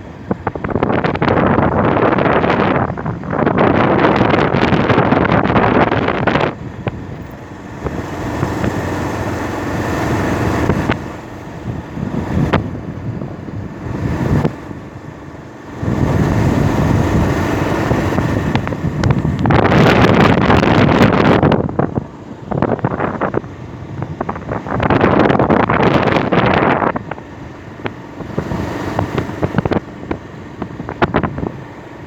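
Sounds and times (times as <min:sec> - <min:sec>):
road and vehicle rumble: 0:00.0 - 0:32.0
wind buffeting microphone: 0:00.0 - 0:32.0.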